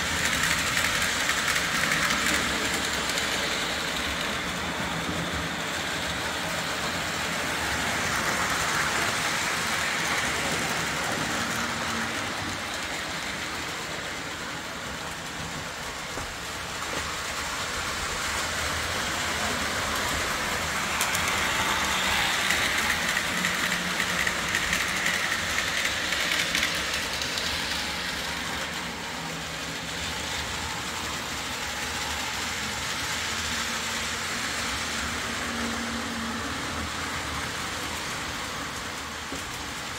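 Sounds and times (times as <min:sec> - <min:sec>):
model train motor hum: 0:00.0 - 0:39.9
train wheel clatter: 0:00.0 - 0:39.9.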